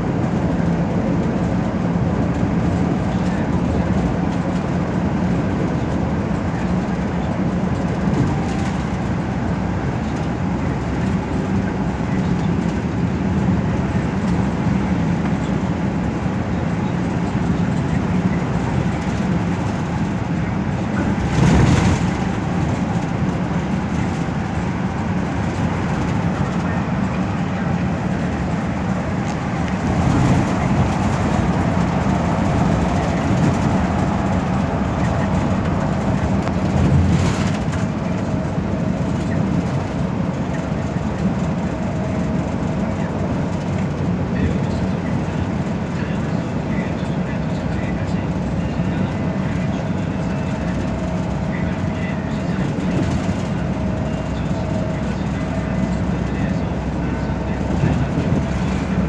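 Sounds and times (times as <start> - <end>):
bus engine drone: 0.0 - 59.0
road and tyre rumble: 0.0 - 59.0.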